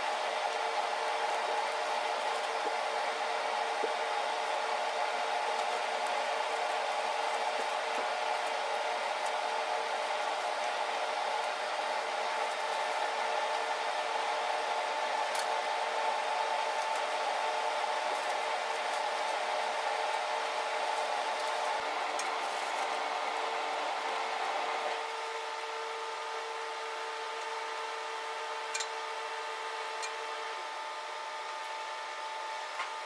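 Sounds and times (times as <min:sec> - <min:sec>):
blower whirring: 0:00.0 - 0:33.0.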